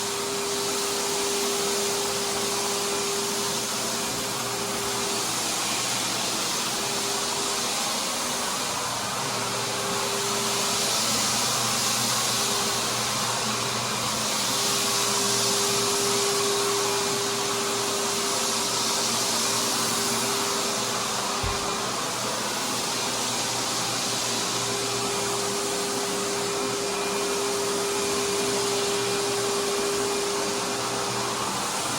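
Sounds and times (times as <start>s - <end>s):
floor sander motor whirring: 0.0s - 31.9s.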